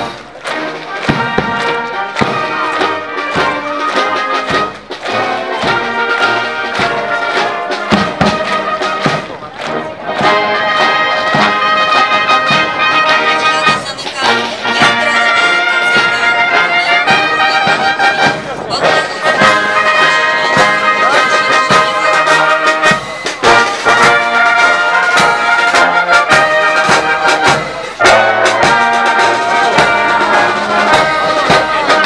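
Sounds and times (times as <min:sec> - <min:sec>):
brass band playing a march: 0:00.0 - 0:32.0
sharp percussive beats: 0:00.0 - 0:32.0.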